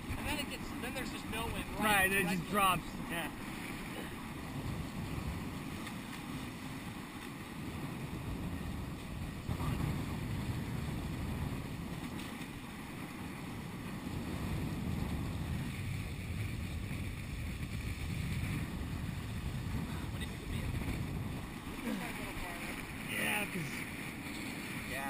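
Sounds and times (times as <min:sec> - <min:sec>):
water washing past hulls: 0:00.0 - 0:25.0
wind noise on microphone: 0:03.1 - 0:25.0.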